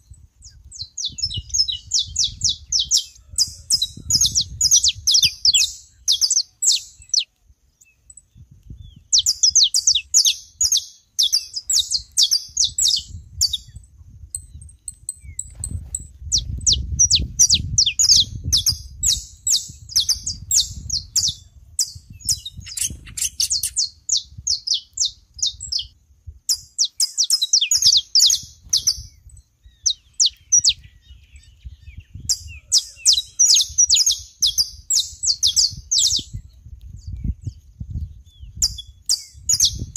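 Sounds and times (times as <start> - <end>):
finches singing and chirping: 0.4 - 39.9.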